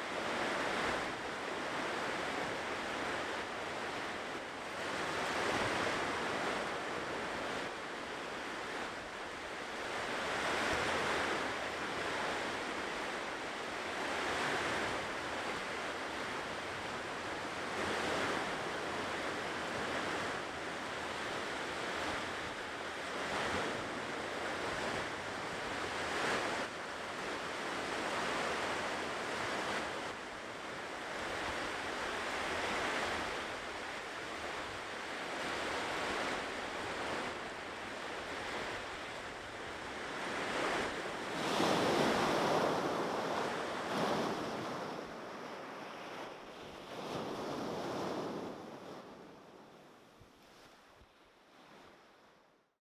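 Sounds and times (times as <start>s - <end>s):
ocean waves breaking on shore: 0.0s - 52.5s.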